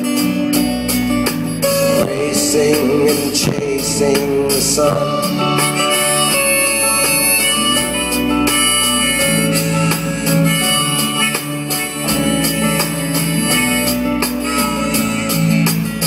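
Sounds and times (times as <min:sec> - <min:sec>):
drum kit beat: 0:00.0 - 0:16.0
electric guitar: 0:00.0 - 0:16.0
keyboard: 0:00.0 - 0:16.0
strummed acoustic guitar: 0:00.0 - 0:16.0.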